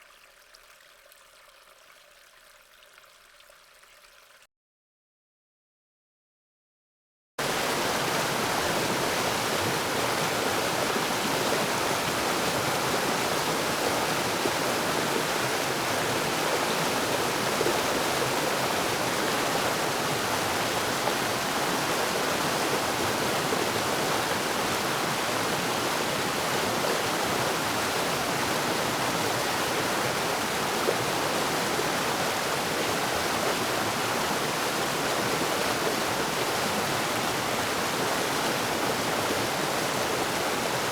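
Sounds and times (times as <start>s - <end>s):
flowing water rushing: 7.4s - 40.9s.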